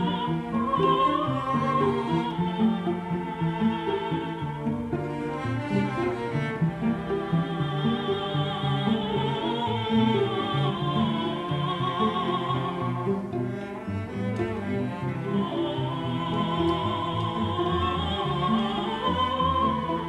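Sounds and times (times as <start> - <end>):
low bowed strings: 0.0 - 20.0.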